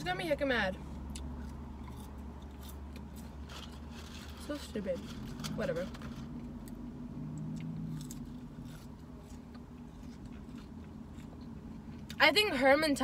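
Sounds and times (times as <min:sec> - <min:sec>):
steady low hum: 0:00.0 - 0:13.0
person chewing fries: 0:00.8 - 0:04.5, 0:05.1 - 0:12.2.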